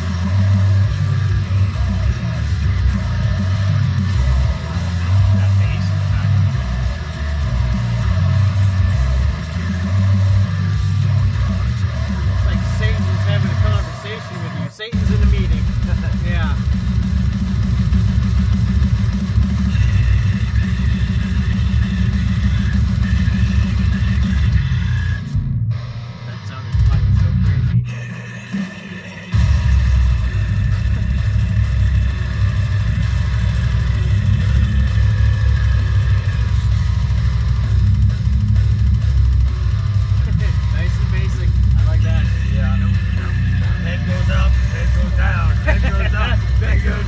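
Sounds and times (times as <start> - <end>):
heavy metal music on car stereo: 0.0 - 47.0
heavy metal song: 0.0 - 47.0.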